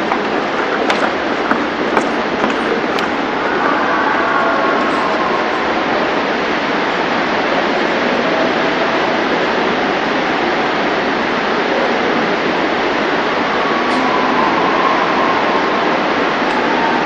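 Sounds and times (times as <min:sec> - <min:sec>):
loud steady rushing noise: 0:00.0 - 0:17.0.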